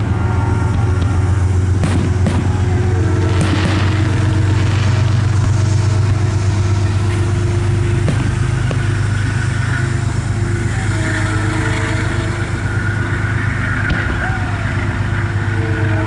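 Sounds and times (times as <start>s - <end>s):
loud low hum: 0.0s - 16.0s.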